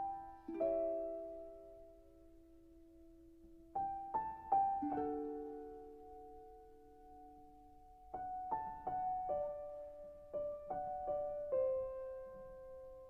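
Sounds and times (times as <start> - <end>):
slow sad solo piano: 0.0 - 13.0.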